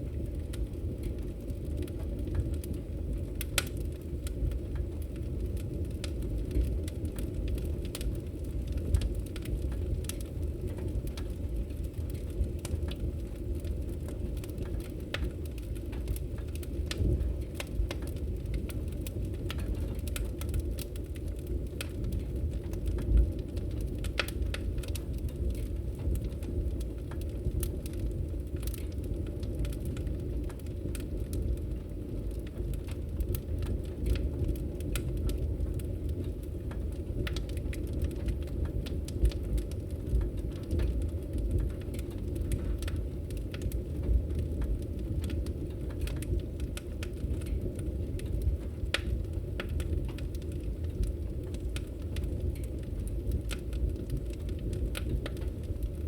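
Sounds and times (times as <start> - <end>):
low rumble of flame: 0.0 - 56.0
wood crackling and popping: 0.0 - 56.0.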